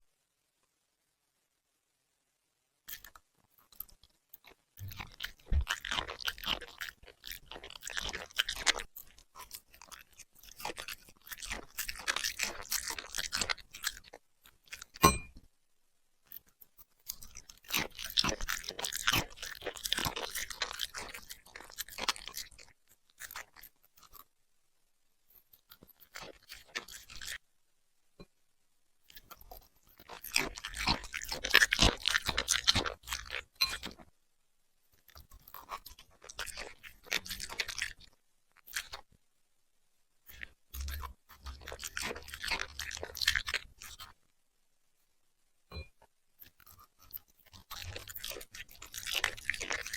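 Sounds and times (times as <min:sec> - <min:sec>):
puppy chewing and crunching food: 0:02.9 - 0:15.4, 0:16.3 - 0:24.3, 0:25.3 - 0:27.4, 0:29.0 - 0:34.1, 0:34.9 - 0:39.2, 0:40.2 - 0:44.2, 0:45.7 - 0:49.9.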